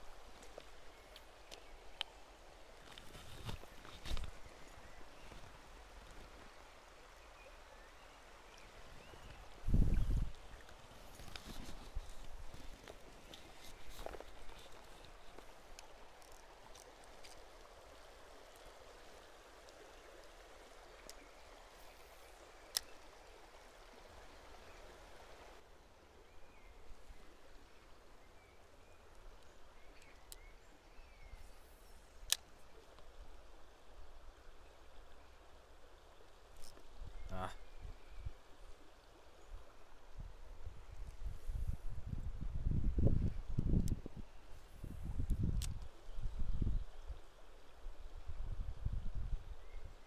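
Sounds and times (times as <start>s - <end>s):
river running over stones: 0.0s - 41.3s.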